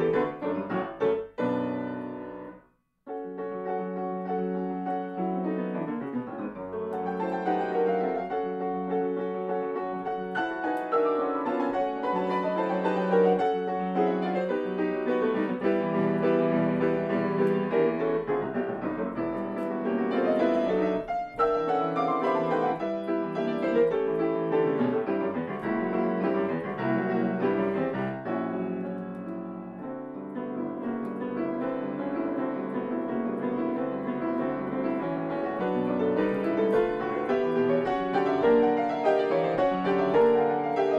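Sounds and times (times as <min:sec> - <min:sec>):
classical piano piece: 0:00.0 - 0:40.9.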